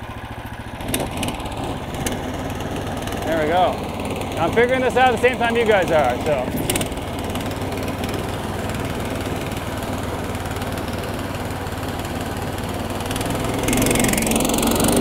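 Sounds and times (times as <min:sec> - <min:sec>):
small gasoline engine running: 0:00.0 - 0:15.0.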